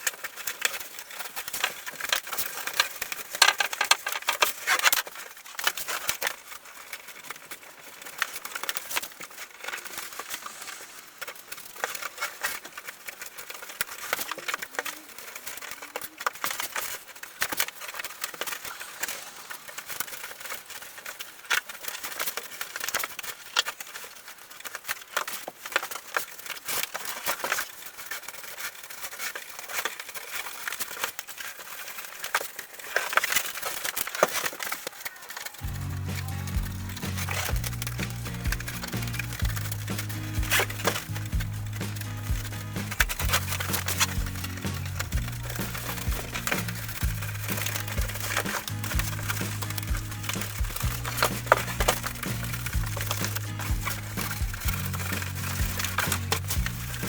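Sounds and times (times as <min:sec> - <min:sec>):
fabric crinkling and crackling: 0:00.0 - 0:57.0.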